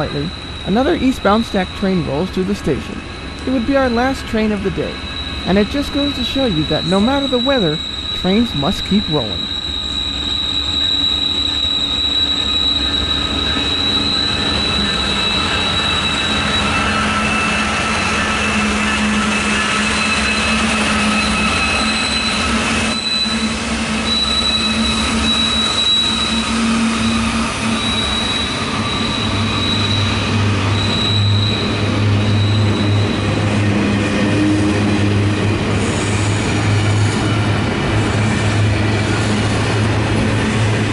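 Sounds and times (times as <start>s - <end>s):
freight train rumble: 0.0s - 40.9s
train wheels squealing: 0.0s - 40.9s.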